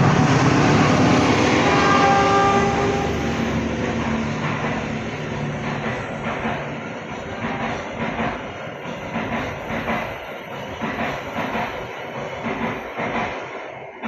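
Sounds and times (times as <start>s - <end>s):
train wheels clacking over rail joints: 0.0s - 13.7s.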